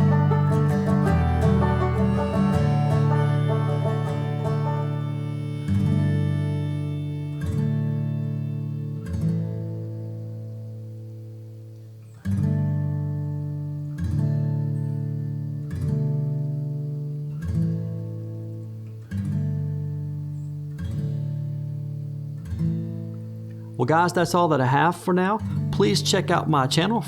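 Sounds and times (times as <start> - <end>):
acoustic guitar strummed chords: 0.0 - 11.6, 12.2 - 27.0.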